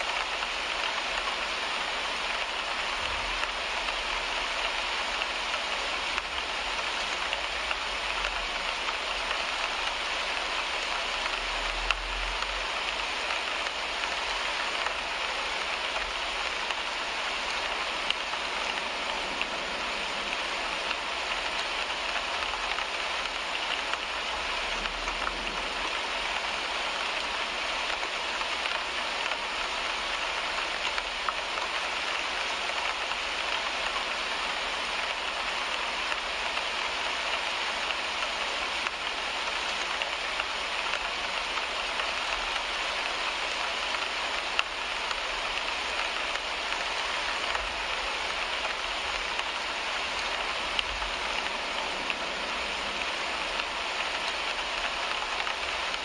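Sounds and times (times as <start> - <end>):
rain on car windshield: 0.0 - 56.0.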